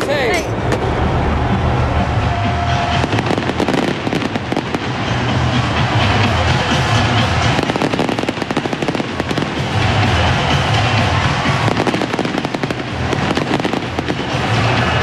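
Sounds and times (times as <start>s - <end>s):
background music: 0.0s - 15.0s
fireworks crackling and popping: 2.8s - 15.0s.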